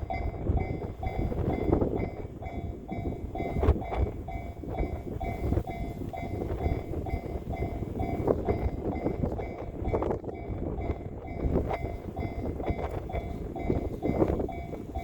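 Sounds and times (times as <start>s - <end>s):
level crossing warning bell: 0.0s - 15.0s
train passing: 0.0s - 15.0s
wind on microphone: 0.0s - 15.0s.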